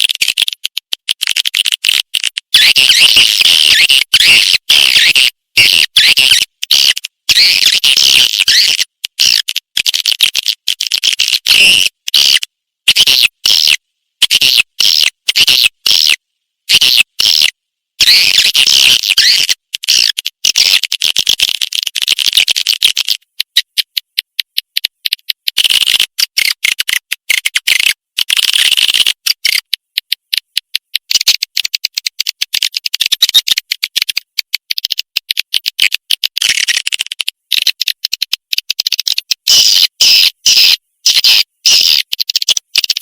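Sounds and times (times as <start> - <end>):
recorded bird chittering calls: 0.0 - 13.8, 14.4 - 24.2, 25.0 - 30.1, 35.8 - 43.0.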